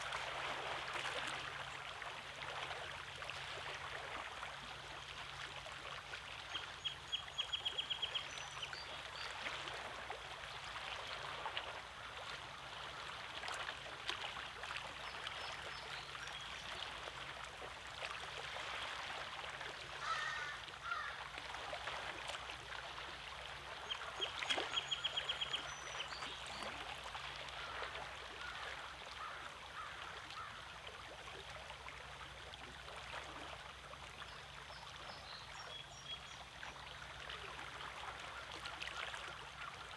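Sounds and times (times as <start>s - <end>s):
small waves lapping on rocks: 0.0s - 39.9s.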